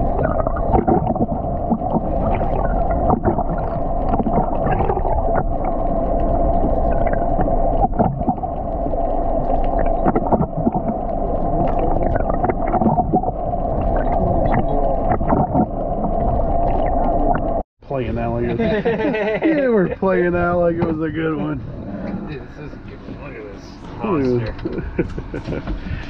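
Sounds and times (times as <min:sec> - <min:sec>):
water against hull: 0:00.0 - 0:17.6, 0:20.0 - 0:26.0.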